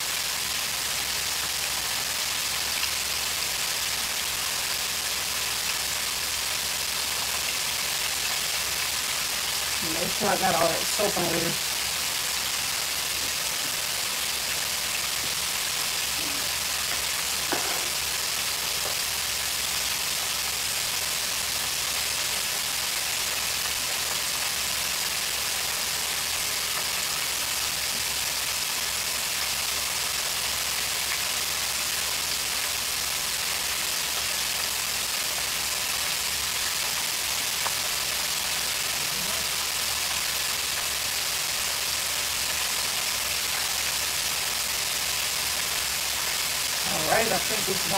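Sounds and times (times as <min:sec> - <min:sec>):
fries sizzling in hot oil: 0:00.0 - 0:47.9.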